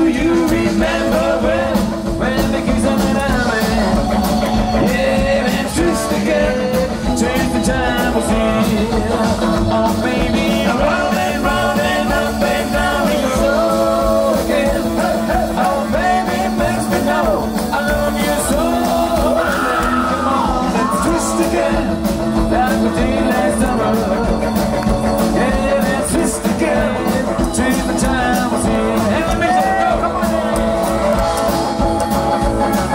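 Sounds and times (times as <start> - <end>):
rock and roll band playing: 0.0 - 32.9.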